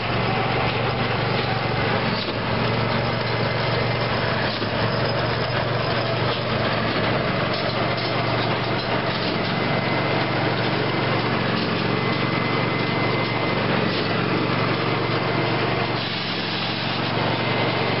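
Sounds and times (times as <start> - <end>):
baler machinery clatter: 0.0 - 18.0
tractor engine hum: 0.0 - 18.0.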